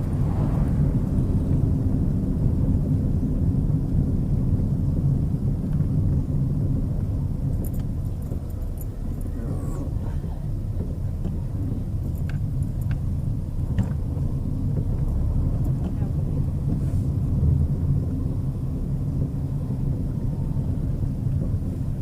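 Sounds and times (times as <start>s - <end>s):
car cabin road rumble: 0.0s - 22.0s.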